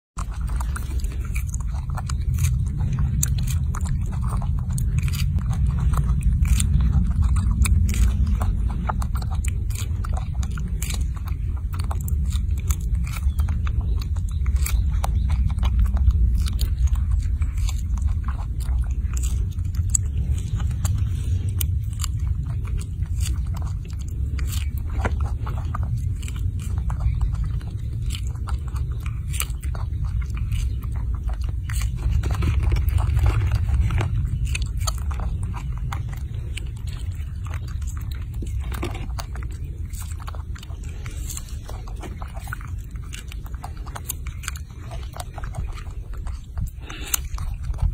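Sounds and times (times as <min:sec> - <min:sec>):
monkey chewing strawberries: 0:00.1 - 0:47.9
steady low rumble: 0:00.2 - 0:47.9.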